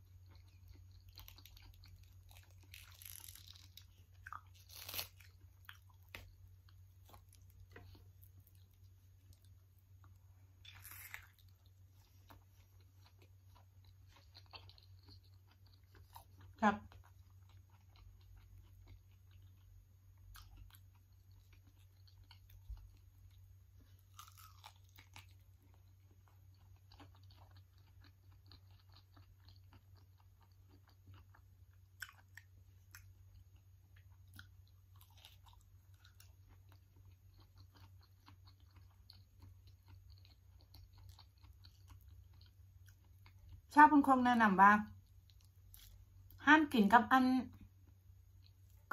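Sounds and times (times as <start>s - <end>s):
wet chewing and lip smacks: 3.6s - 43.7s.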